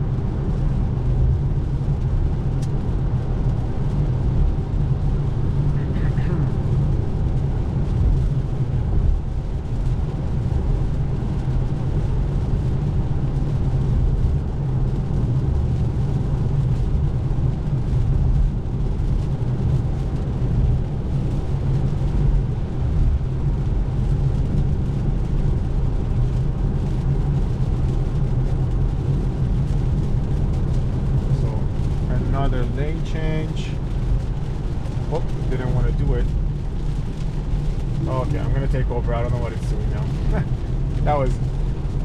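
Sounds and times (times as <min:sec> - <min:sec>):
hiss of water and rain: 0:00.0 - 0:42.0
road and tyre noise: 0:00.0 - 0:42.0.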